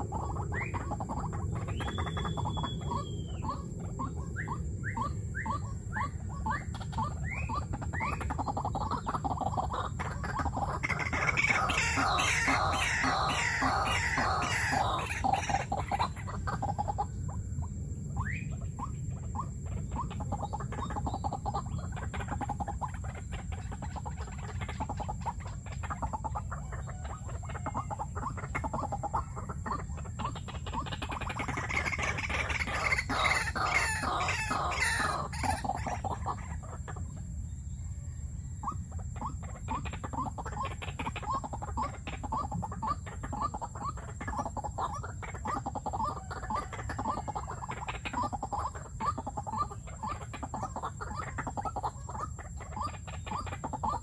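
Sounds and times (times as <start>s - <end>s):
waterhens calling: 0.0s - 37.4s, 38.6s - 54.0s.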